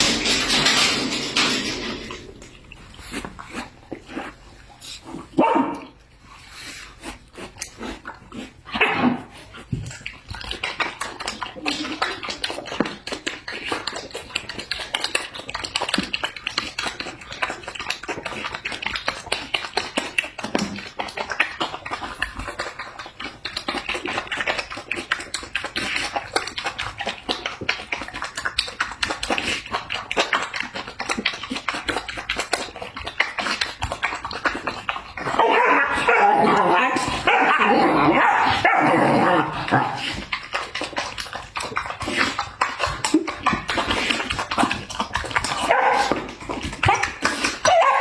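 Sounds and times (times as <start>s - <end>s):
dog eating and lapping: 0.0s - 48.0s.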